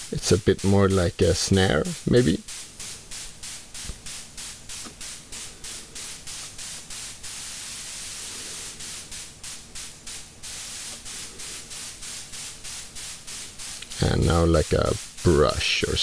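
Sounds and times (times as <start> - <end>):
short white noise hiss bursts: 0.0 - 16.0.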